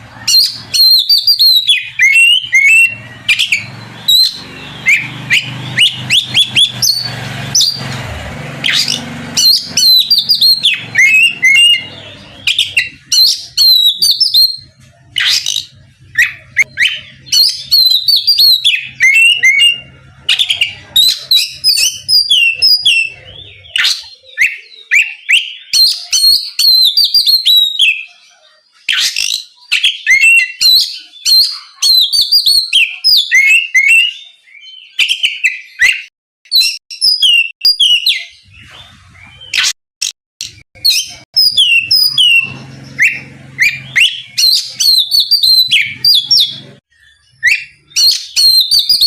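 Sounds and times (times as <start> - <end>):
bird singing whistled notes: 0.0 - 8.0, 8.6 - 39.8, 40.8 - 49.0.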